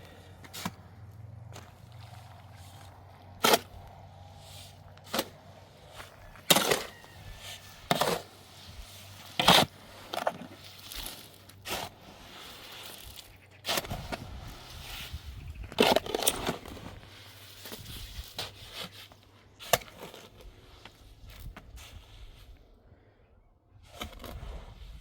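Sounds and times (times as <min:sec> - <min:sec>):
knocks and scrapes: 0:00.4 - 0:21.7.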